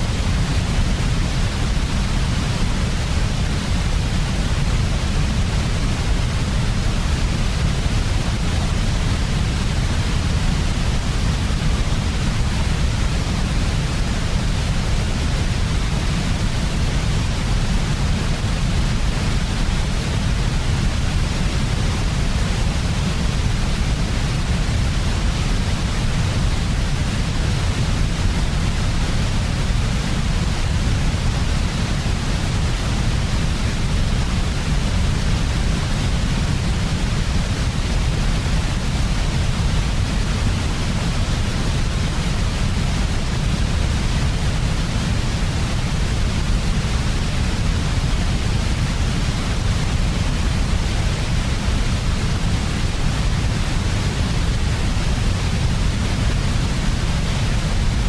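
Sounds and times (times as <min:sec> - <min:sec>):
white noise rumble and hiss: 0:00.0 - 0:58.0.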